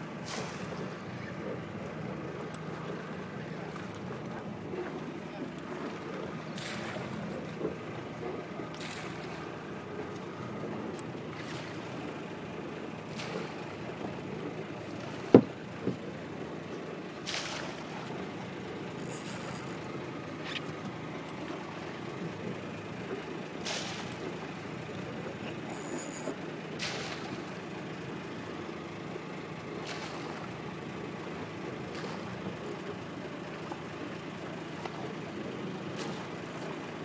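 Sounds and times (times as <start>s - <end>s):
small boat engine rumble: 0.0s - 37.0s.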